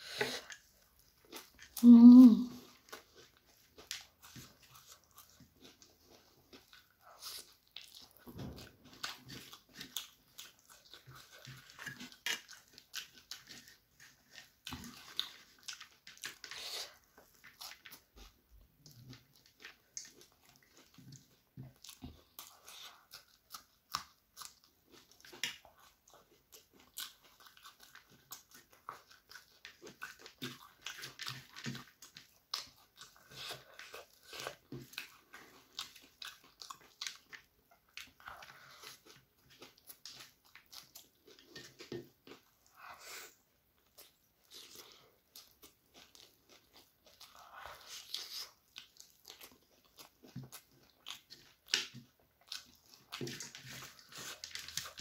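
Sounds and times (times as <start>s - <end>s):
chewing and crunching puffed rice: 0.0s - 55.0s.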